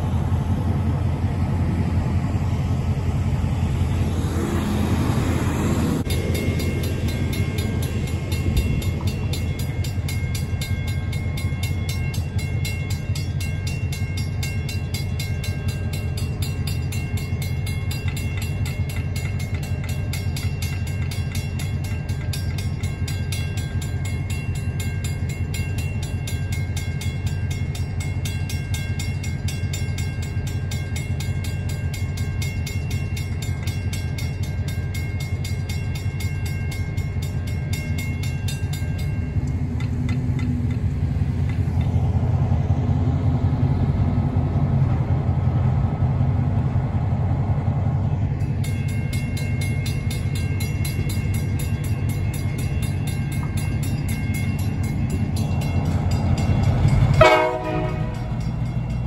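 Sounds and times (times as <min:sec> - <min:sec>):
train rumbling: 0:00.0 - 0:59.0
railway crossing bell ringing: 0:02.7 - 0:42.9, 0:48.0 - 0:59.0.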